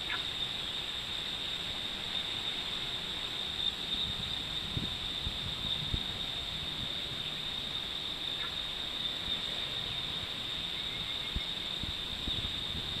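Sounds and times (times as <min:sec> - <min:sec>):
cicadas chorus: 0:00.0 - 0:13.0.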